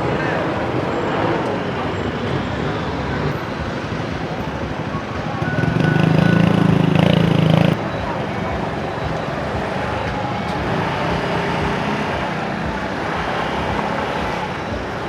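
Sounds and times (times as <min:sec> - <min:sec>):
loud engine close by: 0:00.0 - 0:15.0
steady traffic noise: 0:00.0 - 0:15.0.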